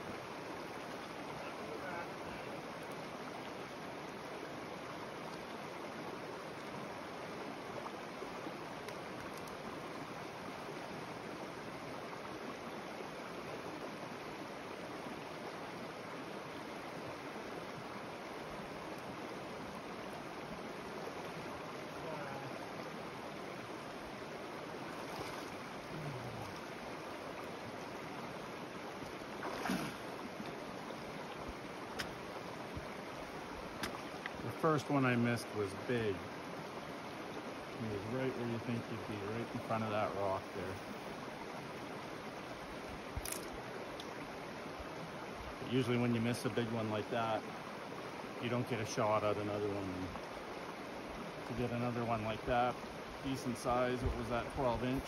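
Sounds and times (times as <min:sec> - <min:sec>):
creek flowing over rocks: 0:00.0 - 0:55.0.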